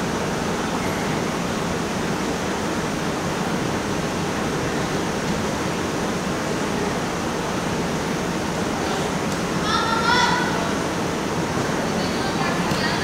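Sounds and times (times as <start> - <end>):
gymnasium background noise: 0.0 - 13.0.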